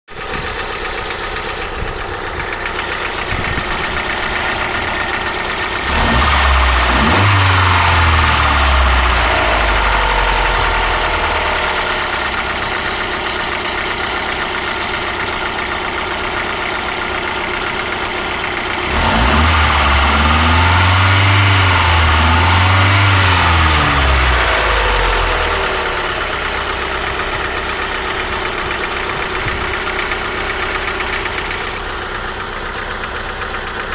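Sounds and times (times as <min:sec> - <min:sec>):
engine revving: 0:00.2 - 0:32.3
car engine idling with knock: 0:00.2 - 0:33.9.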